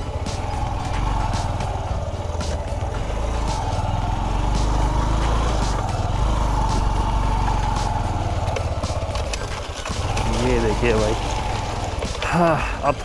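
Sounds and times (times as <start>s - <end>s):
sharp ticks: 0.0s - 12.5s
motorcycle engine running: 0.0s - 13.0s.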